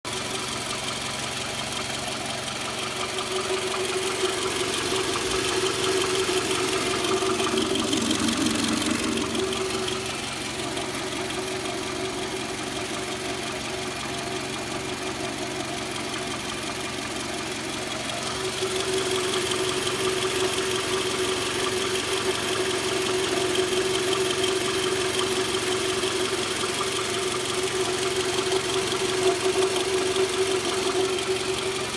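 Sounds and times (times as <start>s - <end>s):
car engine running with knock: 0.1s - 31.9s.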